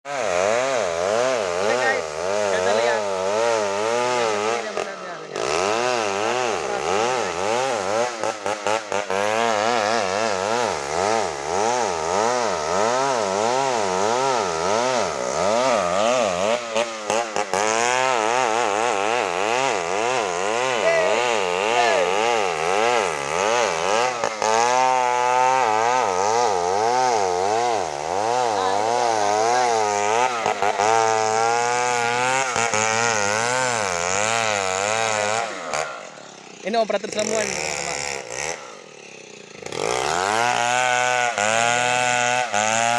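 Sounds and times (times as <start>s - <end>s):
chainsaw cutting wood: 0.1s - 42.9s.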